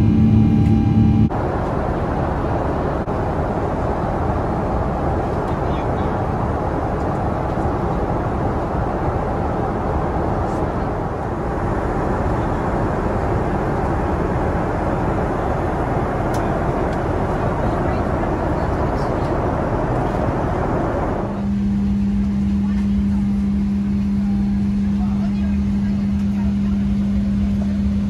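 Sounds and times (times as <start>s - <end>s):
airplane cabin noise: 0.0s - 28.0s.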